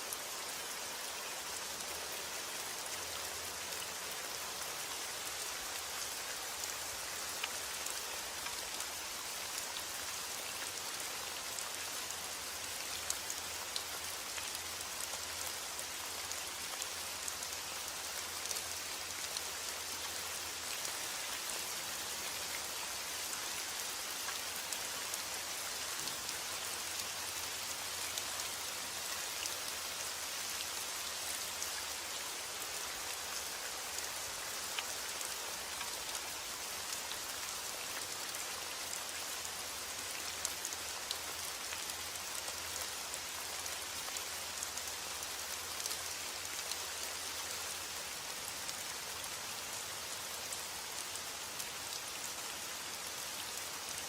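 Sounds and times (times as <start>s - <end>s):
rain drops ticking on a surface: 0.0s - 54.0s.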